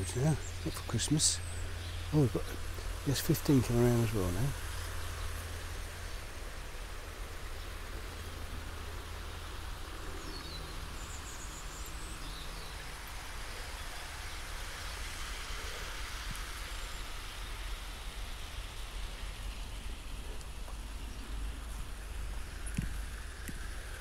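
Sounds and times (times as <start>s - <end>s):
low rumble with hiss: 0.0s - 24.0s
robin singing faintly: 0.0s - 24.0s.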